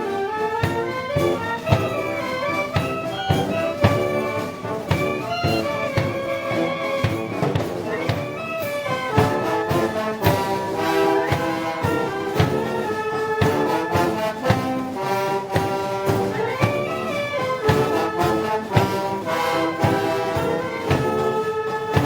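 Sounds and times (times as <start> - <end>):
brass band playing: 0.0 - 22.0
steady drum beat: 0.0 - 22.0
trumpets and trombones chords: 0.0 - 22.0.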